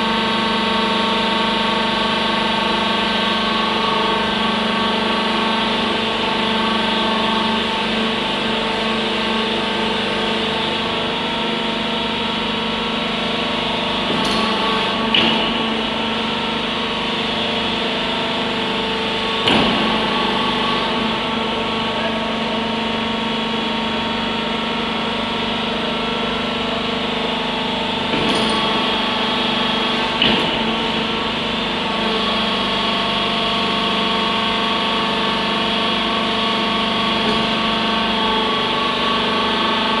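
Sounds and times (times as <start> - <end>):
hydraulic machine drone: 0.0 - 40.0.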